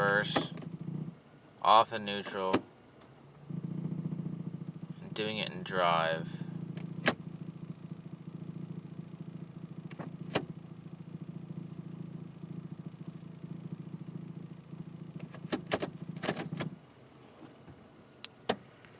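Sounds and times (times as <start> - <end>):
truck idling with pulsing drone: 0.0 - 16.2.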